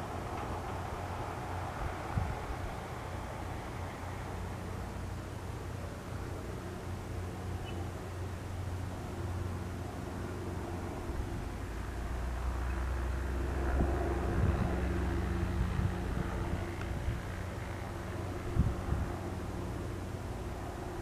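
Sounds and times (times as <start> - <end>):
light plane engine humming: 0.0 - 21.0.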